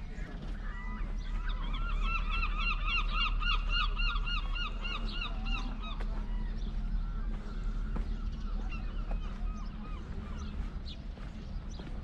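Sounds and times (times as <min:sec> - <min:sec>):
gull yelping calls: 0:00.1 - 0:10.6.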